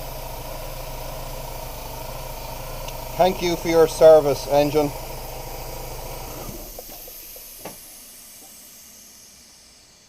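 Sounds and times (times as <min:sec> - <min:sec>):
car engine idling: 0:00.0 - 0:10.0
hiss: 0:00.0 - 0:10.0.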